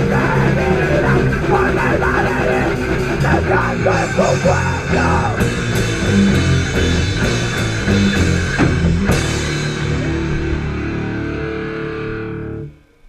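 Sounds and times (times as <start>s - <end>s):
rock band playing: 0.0s - 12.8s.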